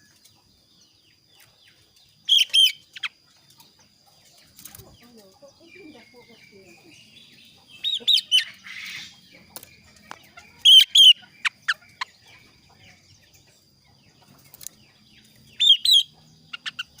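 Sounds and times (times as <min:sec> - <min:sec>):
bird calling: 0:01.1 - 0:17.0.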